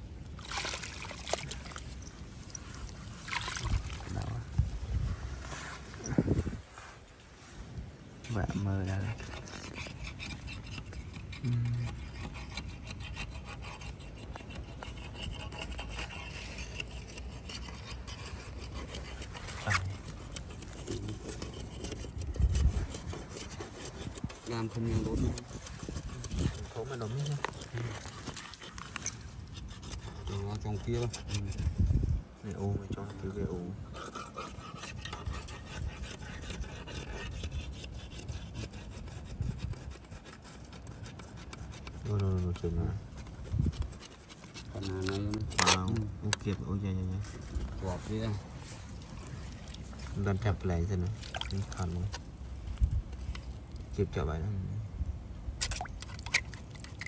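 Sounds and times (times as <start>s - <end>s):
metal rod scraping in mud: 8.2s - 31.8s, 32.9s - 54.0s, 55.6s - 57.0s.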